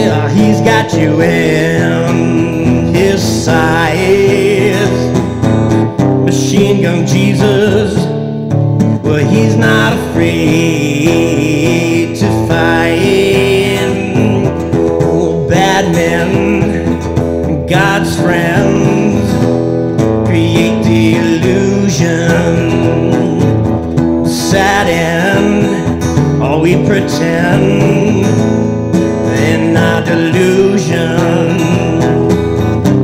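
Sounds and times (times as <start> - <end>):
acoustic guitar strummed: 0.0 - 33.0
man singing: 0.0 - 33.0.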